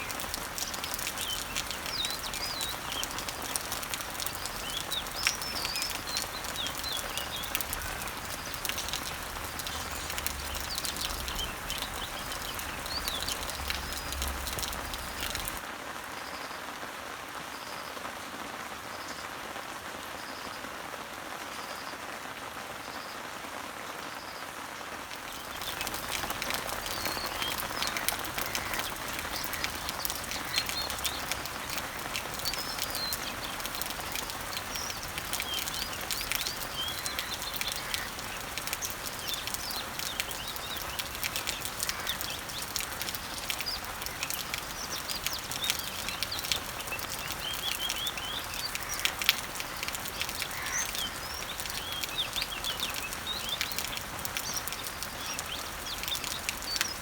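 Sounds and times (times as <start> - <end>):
birds chirping: 0.0 - 15.6, 25.1 - 57.0
rain falling on leaves: 0.0 - 57.0.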